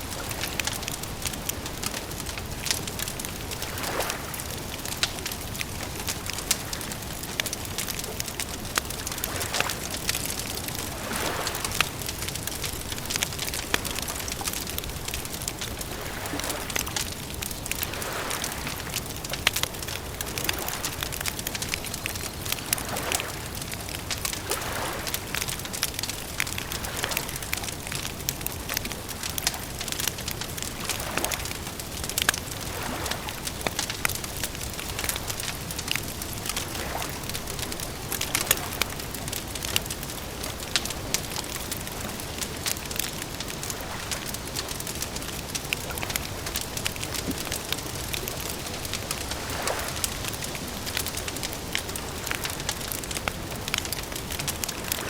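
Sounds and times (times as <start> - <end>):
wood campfire crackling: 0.0 - 55.0.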